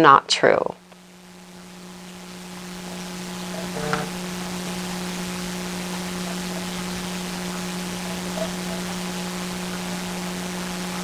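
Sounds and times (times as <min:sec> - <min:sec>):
low electrical hum: 0:00.0 - 0:11.0
recording hiss: 0:00.0 - 0:11.0.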